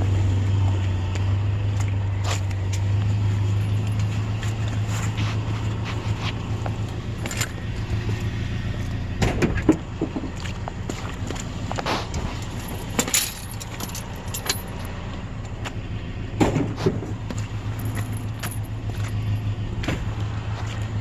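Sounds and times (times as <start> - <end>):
car engine running: 0.0 - 21.0
engine rattling and clicking: 0.0 - 21.0.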